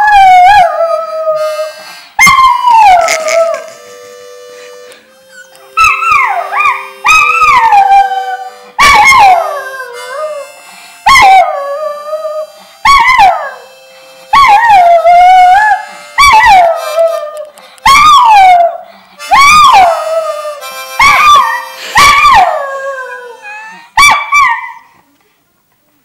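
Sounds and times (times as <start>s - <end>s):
harmonica notes: 0.0s - 24.0s.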